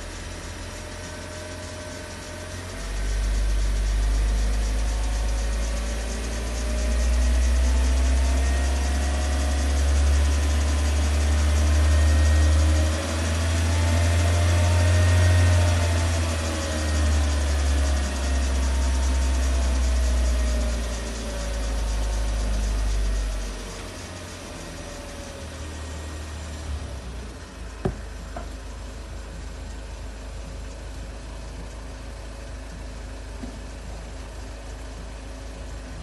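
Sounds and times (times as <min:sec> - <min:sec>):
car engine idling with clacking: 0:00.0 - 0:36.0.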